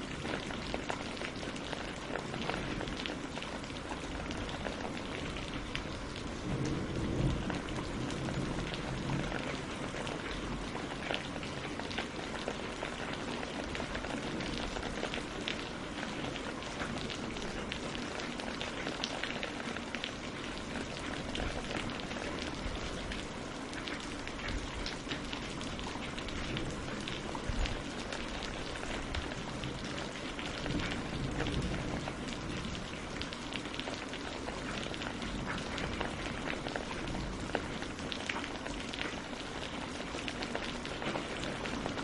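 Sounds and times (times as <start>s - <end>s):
rain on leaves and water: 0.0s - 42.0s.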